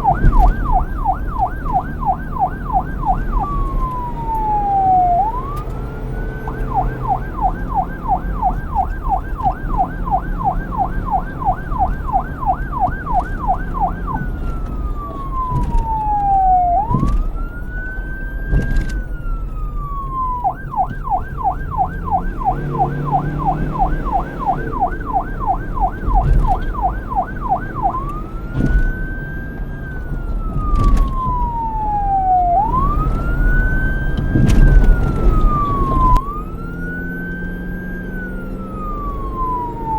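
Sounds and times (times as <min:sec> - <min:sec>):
police siren wail and yelp: 0:00.0 - 0:39.9.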